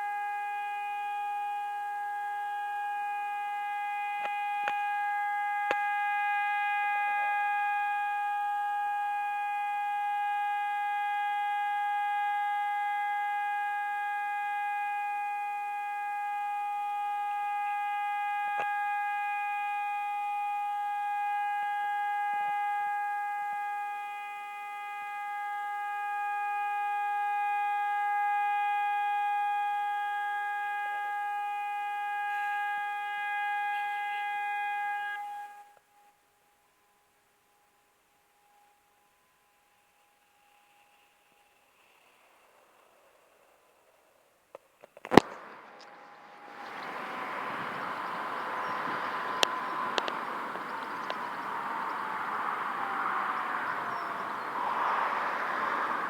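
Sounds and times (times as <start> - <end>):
warning siren steady tone: 0.0 - 43.4, 45.1 - 56.0.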